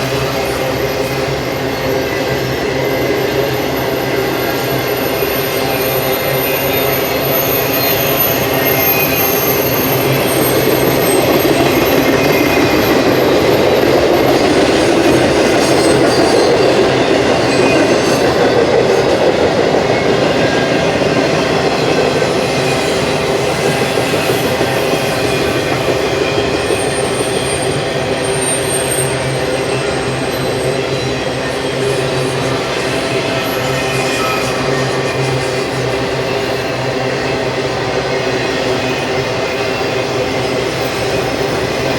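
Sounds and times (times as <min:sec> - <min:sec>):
train wheels rumbling on rail: 0:00.0 - 0:41.9
high-pitched wheel squeal: 0:00.1 - 0:41.9.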